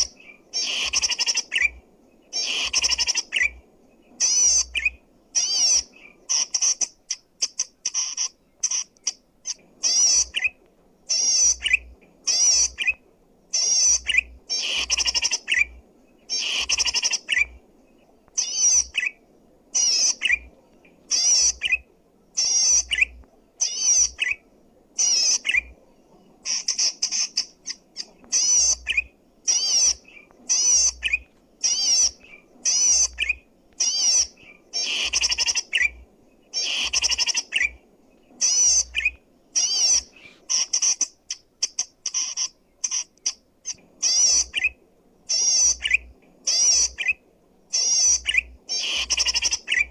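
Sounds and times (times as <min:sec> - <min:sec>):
bird chirping bursts: 0:00.0 - 0:49.9.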